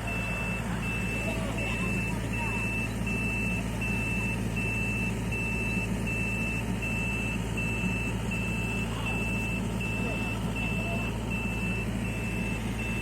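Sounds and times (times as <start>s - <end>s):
engine rumble: 0.0s - 13.0s
reversing alarm beeping: 0.0s - 13.0s.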